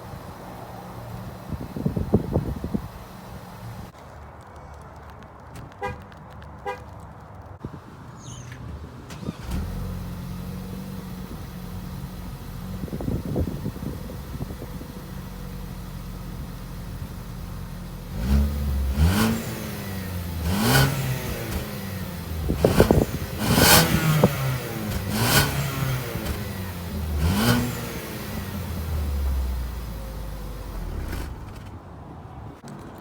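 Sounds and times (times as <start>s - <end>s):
car engine idling and revving: 0.0s - 4.0s, 7.7s - 32.6s.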